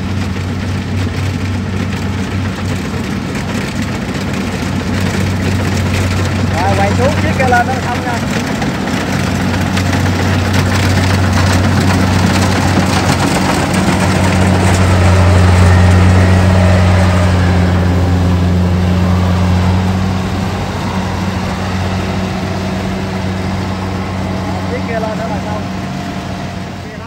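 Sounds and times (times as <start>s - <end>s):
combine harvester engine hum: 0.0s - 27.0s.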